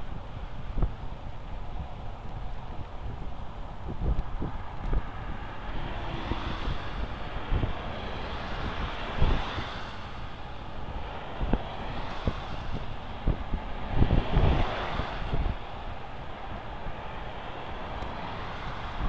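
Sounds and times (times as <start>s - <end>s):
traffic passing: 0.0s - 19.0s
wind on microphone: 0.0s - 19.0s.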